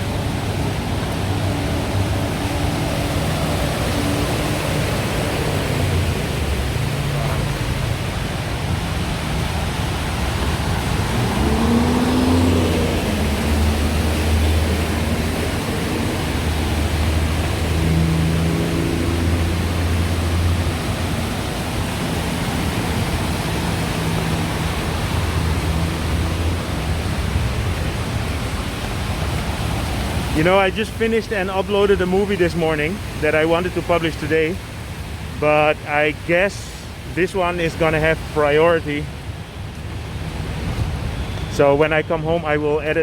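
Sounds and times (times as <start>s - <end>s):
water hissing on flooded street: 0.0s - 42.6s
vehicle engines passing: 0.0s - 43.0s.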